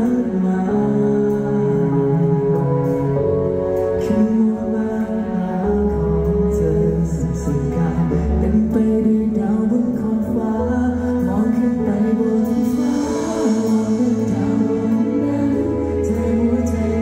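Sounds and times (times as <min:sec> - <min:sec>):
low bass line: 0:00.0 - 0:17.0
man singing pop song: 0:00.0 - 0:17.0.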